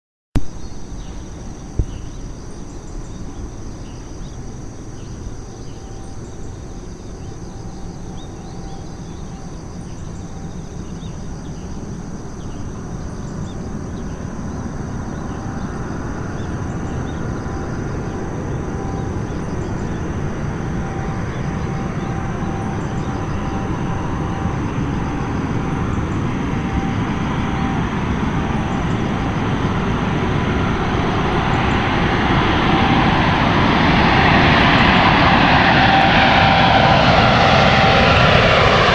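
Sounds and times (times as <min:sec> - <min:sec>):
jet engines low rumble: 0:00.4 - 0:38.9.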